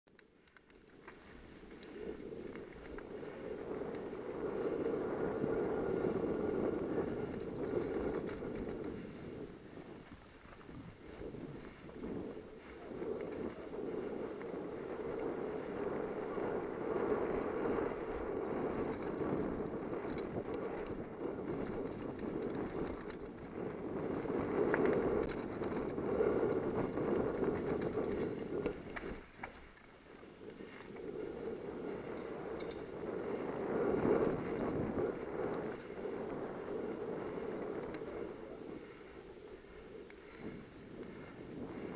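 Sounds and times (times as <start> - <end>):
bike clicks and rattles: 0.1 - 41.9
bike tyres rumbling on dirt trail: 0.1 - 41.9.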